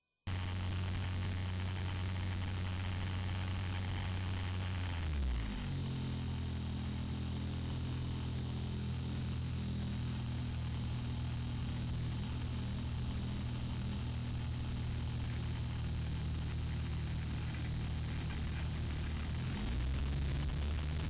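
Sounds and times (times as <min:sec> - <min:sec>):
static hiss: 0:00.3 - 0:21.0
model airplane engine running: 0:01.9 - 0:20.4.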